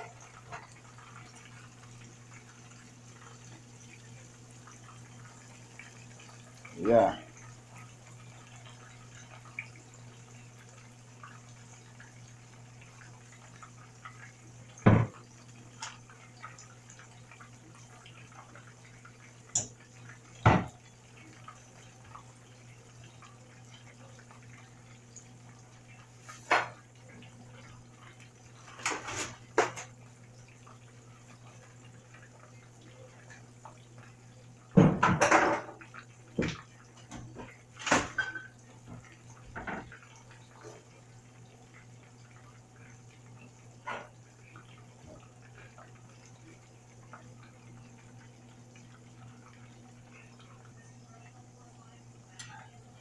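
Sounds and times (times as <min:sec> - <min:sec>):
fish sizzling in oil: 0:00.0 - 0:53.0.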